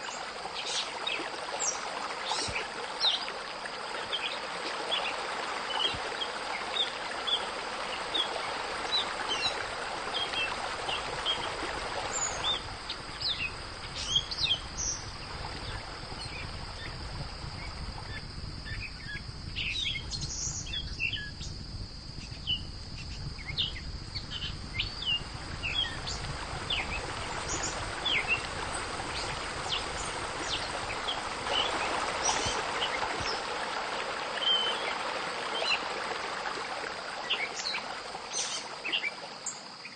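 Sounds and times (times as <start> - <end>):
running water: 0.0 - 18.6, 23.2 - 39.9.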